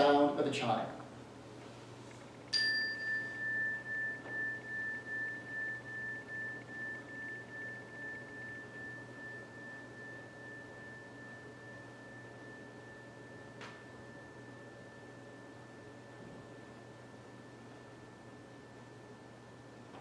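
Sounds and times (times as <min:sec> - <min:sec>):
hand chime ringing: 0:02.5 - 0:19.1.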